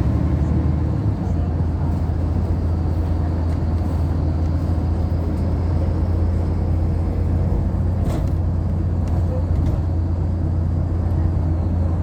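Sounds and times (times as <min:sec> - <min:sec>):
bus engine rumble from inside: 0:00.0 - 0:12.0.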